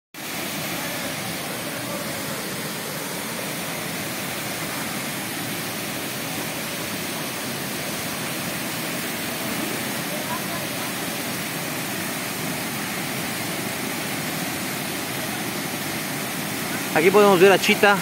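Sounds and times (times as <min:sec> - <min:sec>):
waterfall rushing: 0:00.2 - 0:18.0.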